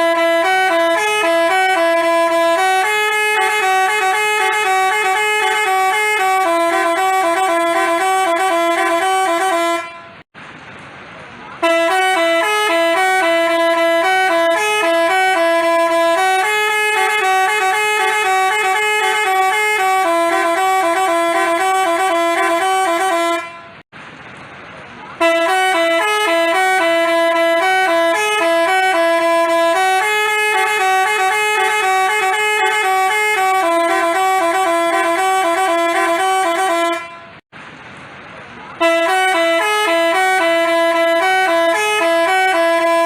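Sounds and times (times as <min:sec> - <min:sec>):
multi-tone horn tune: 0:00.0 - 0:10.3, 0:11.6 - 0:23.8, 0:25.2 - 0:37.4, 0:38.8 - 0:43.0.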